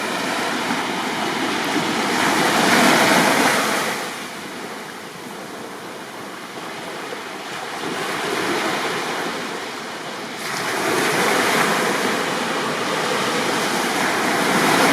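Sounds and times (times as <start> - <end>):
sea waves washing onto beach: 0.0 - 14.9.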